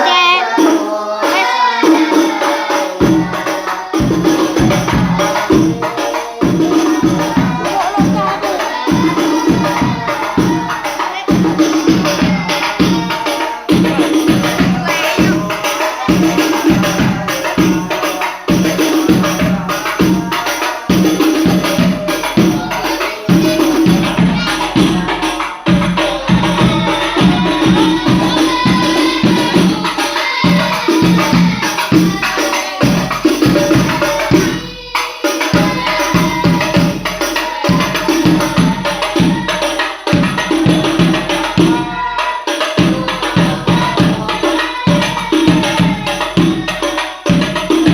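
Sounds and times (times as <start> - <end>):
frame drums beaten in rhythm: 0.0 - 47.9.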